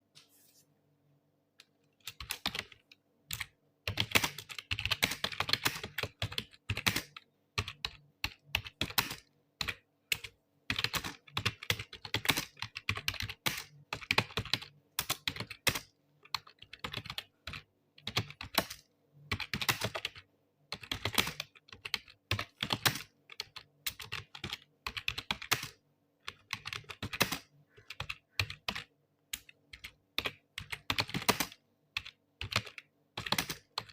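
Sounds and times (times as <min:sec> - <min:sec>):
computer keyboard typing: 0:01.6 - 0:33.9.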